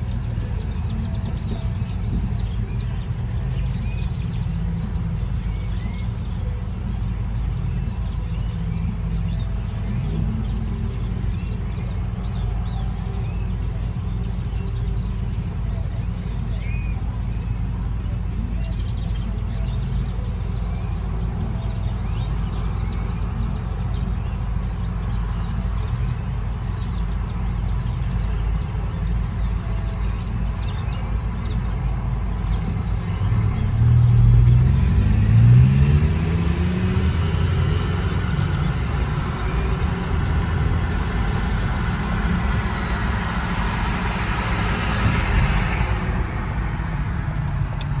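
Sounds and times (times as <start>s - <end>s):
car engine accelerating: 0.0s - 18.1s, 18.8s - 48.0s
road rumble: 0.0s - 48.0s.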